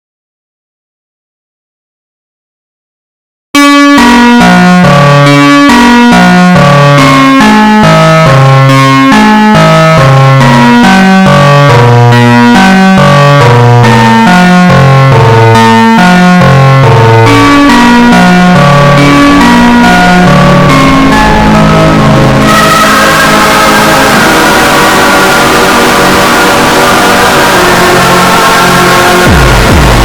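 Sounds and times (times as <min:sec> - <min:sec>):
loud synthesizer music: 0:03.6 - 0:30.0.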